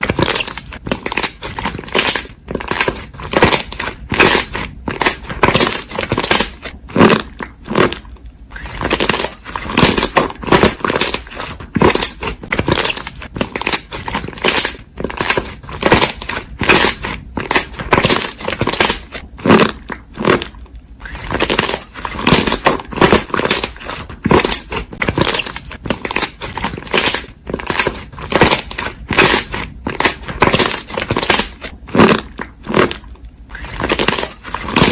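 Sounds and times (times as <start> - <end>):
crunchy slime crackling: 0.0 - 34.9.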